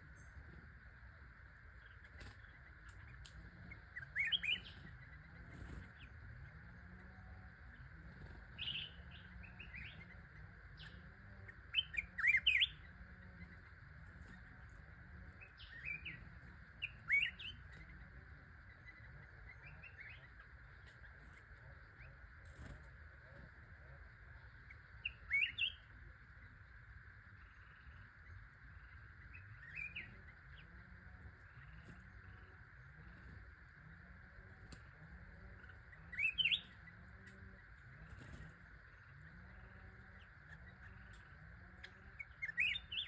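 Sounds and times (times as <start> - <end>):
bird chirping: 0.0 - 43.0
steady background hiss: 0.0 - 43.0.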